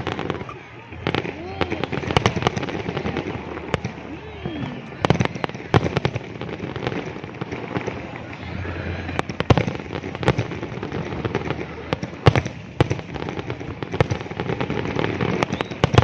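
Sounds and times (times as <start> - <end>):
fireworks bangs: 0.0 - 16.0
fireworks rumble and crackle: 0.0 - 16.0.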